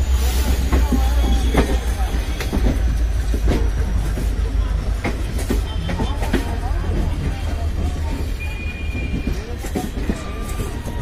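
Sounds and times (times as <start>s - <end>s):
train wheels clacking: 0.4s - 11.0s.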